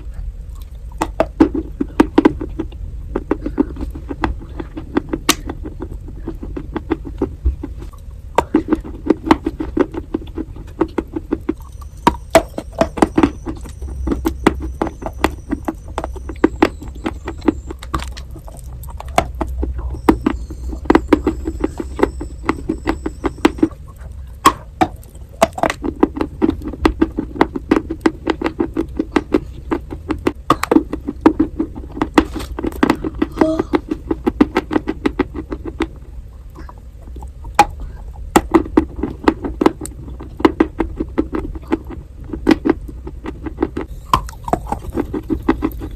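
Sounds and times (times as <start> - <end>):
crunching and chewing chalk: 0.0 - 45.9.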